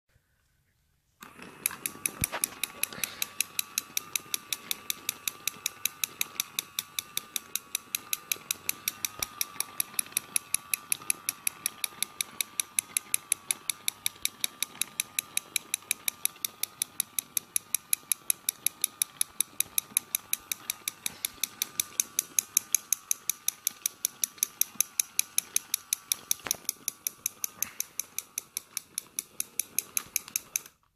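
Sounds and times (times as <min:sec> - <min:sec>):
plastic toy gears clicking: 0:01.2 - 0:30.9.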